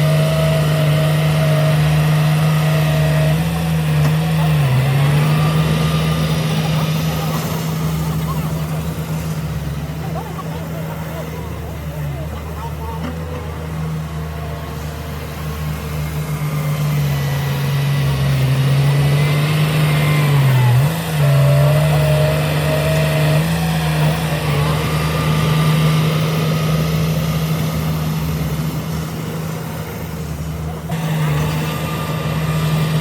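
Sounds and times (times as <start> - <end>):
heavy diesel engine under load: 0.0 - 33.0.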